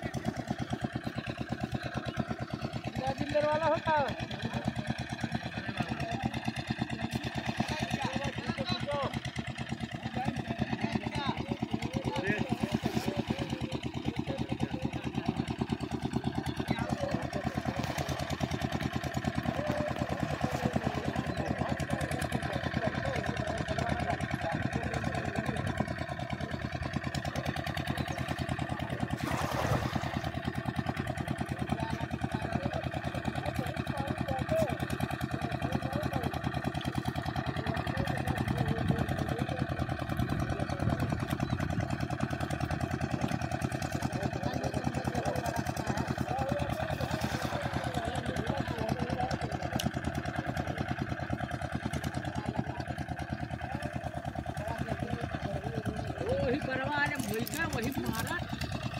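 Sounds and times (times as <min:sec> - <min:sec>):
engine chugging: 0:00.0 - 0:58.9.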